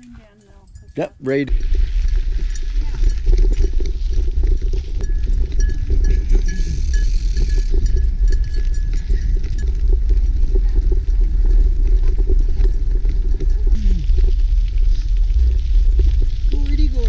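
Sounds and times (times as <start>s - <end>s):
wind rumble on microphone: 0.0s - 17.0s
tyres crackling over gravel: 1.5s - 17.0s.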